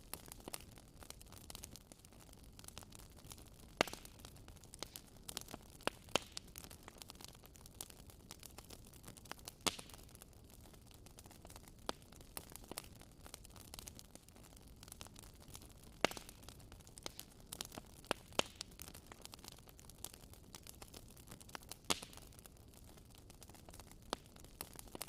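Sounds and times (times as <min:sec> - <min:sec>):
faint steady hiss: 0:00.0 - 0:25.0
wood fire crackling: 0:00.0 - 0:25.0.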